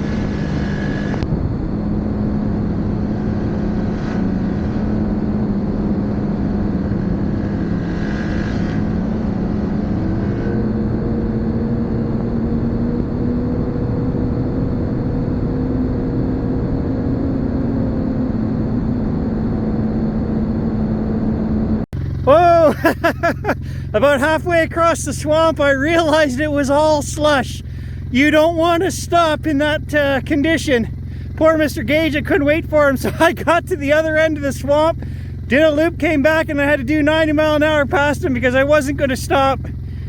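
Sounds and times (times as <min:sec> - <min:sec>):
snowmobile engine running: 0:00.0 - 0:40.0.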